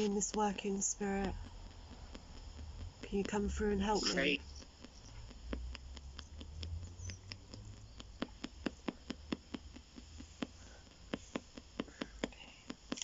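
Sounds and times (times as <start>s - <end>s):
faint radio static: 0.0s - 13.0s
sharp radio clicks: 0.0s - 13.0s.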